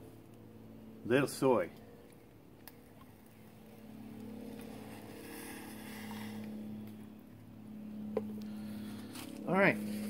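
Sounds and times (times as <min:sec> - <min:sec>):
motor engine drone: 0:00.0 - 0:10.0.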